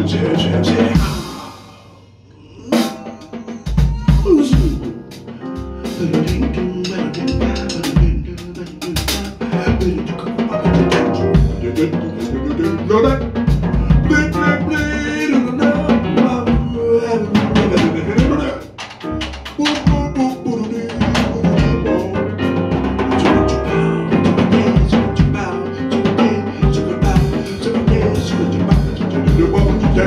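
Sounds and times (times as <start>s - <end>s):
bass drum hits: 0.0s - 1.6s, 3.7s - 20.3s, 20.9s - 30.0s
jazz combo playing: 0.0s - 2.0s, 2.6s - 30.0s.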